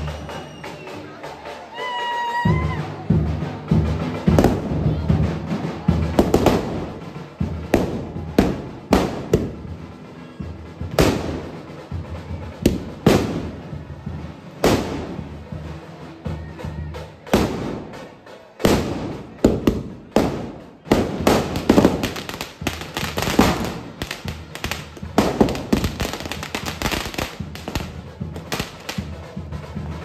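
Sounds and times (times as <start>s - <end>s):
firecrackers banging and crackling: 0.0s - 30.0s.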